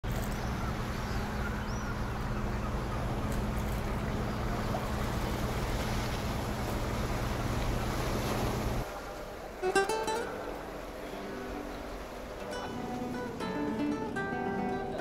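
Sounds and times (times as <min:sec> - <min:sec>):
constant wash of noise: 0:00.0 - 0:15.0.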